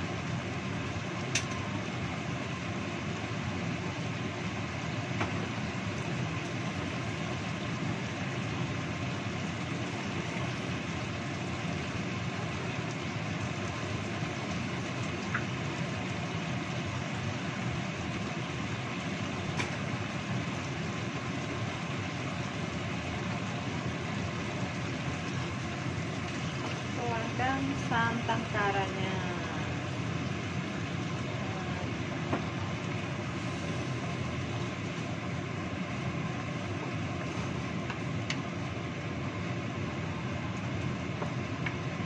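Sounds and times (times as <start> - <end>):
wok sauce simmering: 0.0 - 42.0.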